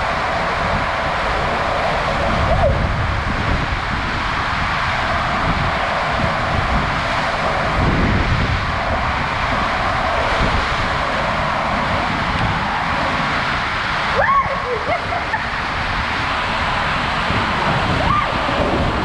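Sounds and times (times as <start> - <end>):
rushing hiss: 0.0 - 19.0
wind buffeting microphone: 0.0 - 19.0.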